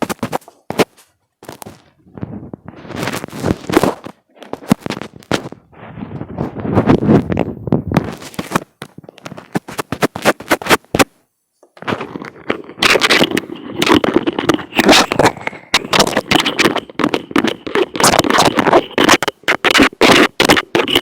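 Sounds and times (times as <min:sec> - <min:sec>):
fingers tapping on microphone: 0:00.0 - 0:21.0
scratchy rubbing on microphone: 0:00.0 - 0:21.0.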